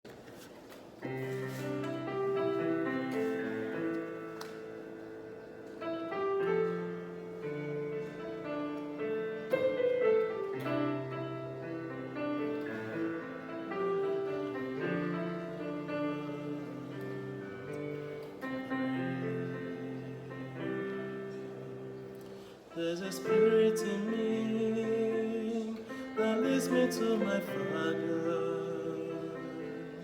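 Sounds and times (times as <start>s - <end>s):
sustained piano chords: 1.0s - 30.0s.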